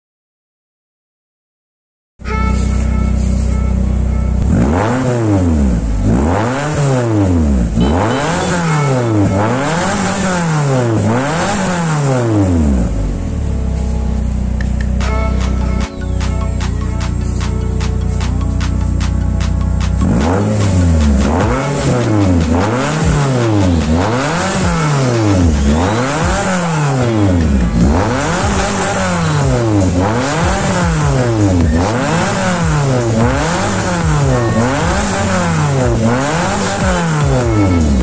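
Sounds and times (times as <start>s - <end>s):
car engine revving: 2.3s - 38.0s.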